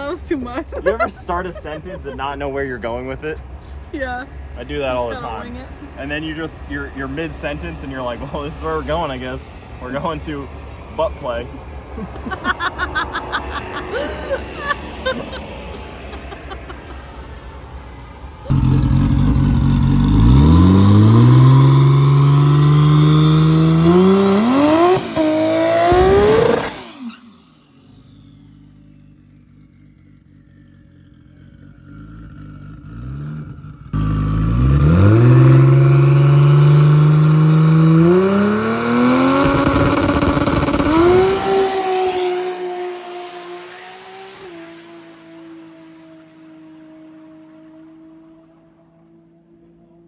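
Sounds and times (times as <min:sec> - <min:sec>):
drag car engine at full throttle: 0:03.1 - 0:50.0.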